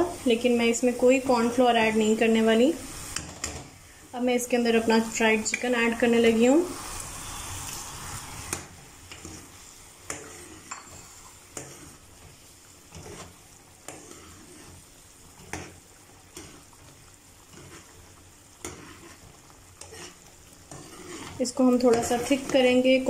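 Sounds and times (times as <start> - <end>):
simmering sauce hiss: 0.0 - 23.0.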